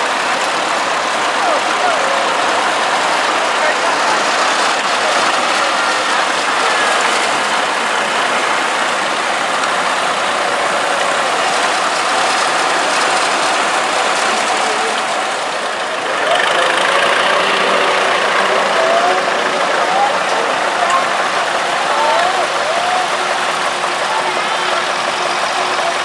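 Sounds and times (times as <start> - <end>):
tractor engines passing: 0.0 - 26.0.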